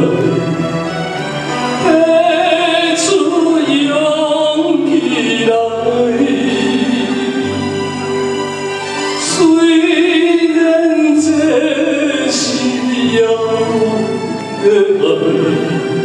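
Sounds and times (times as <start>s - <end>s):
man singing into microphone: 0.0s - 0.6s, 1.8s - 7.5s, 9.2s - 16.0s
karaoke backing track: 0.0s - 16.0s.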